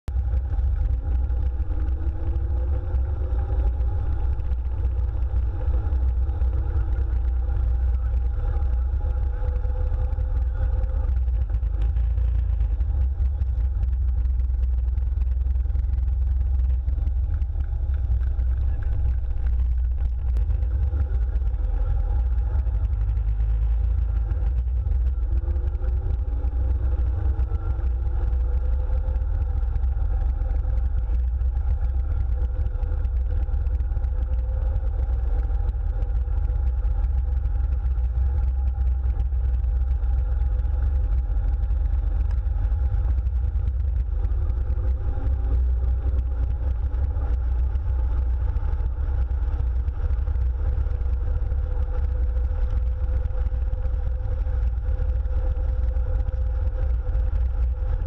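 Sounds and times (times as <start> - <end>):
old car engine running: 0.0 - 58.0
rising drivetrain whine: 0.0 - 58.0.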